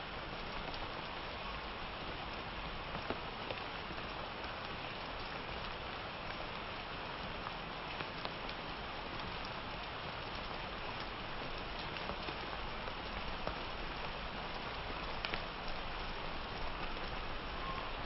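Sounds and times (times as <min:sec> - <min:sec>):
sharp raindrops landing close: 0:00.0 - 0:18.0
steady rain falling: 0:00.0 - 0:18.0.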